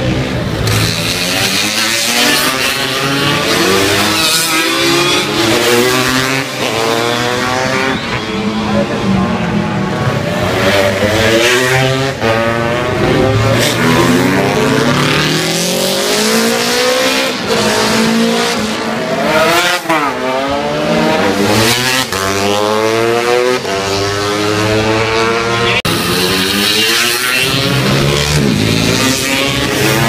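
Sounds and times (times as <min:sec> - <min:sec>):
racing motorcycles passing: 0:00.0 - 0:30.0.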